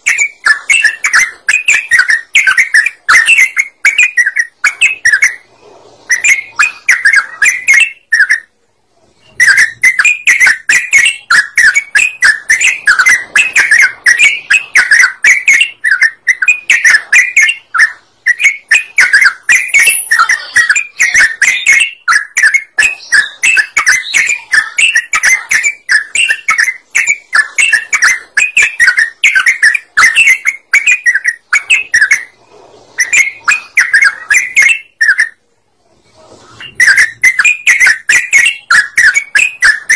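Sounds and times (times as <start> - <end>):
bird chattering song: 0.0 - 8.5, 9.2 - 35.4, 36.5 - 39.9.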